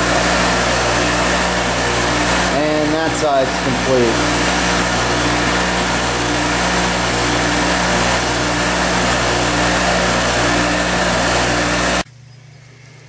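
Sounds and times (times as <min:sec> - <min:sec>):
bench grinder motor hum: 0:00.0 - 0:12.0
grinding wheel whir: 0:00.0 - 0:12.0.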